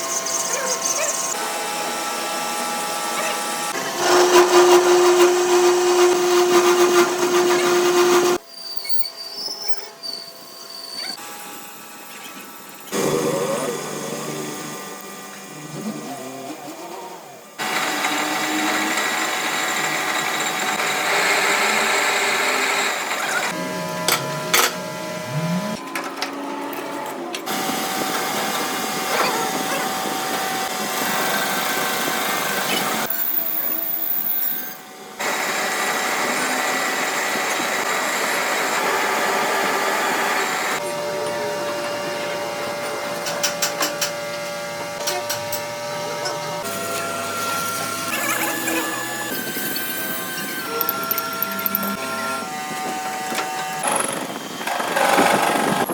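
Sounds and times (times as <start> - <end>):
power tools whining: 0.0 - 8.5, 9.9 - 55.9.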